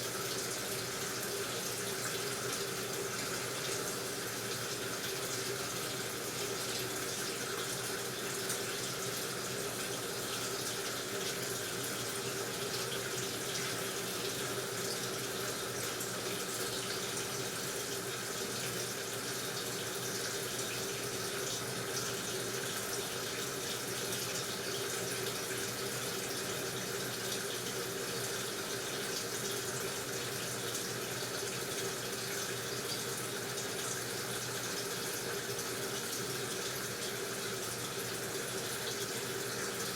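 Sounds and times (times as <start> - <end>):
water rushing in washing machine: 0.0 - 39.9.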